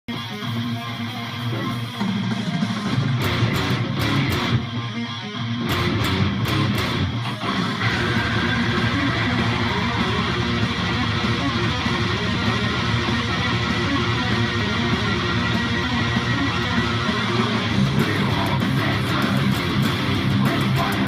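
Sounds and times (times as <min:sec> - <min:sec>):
distorted electric guitar metal riff: 0:00.1 - 0:21.0.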